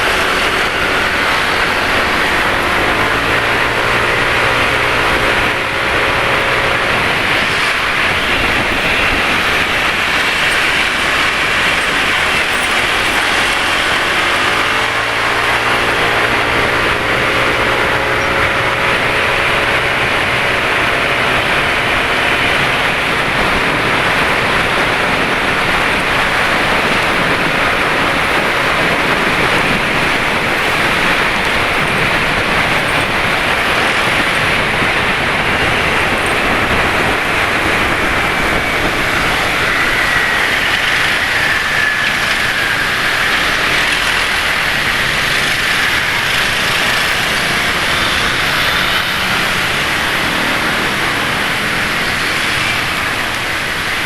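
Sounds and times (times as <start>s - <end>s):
motorcycle engine accelerating: 0.0s - 54.0s
motorcycle engines running: 0.0s - 54.0s
wind and road noise: 0.0s - 54.0s.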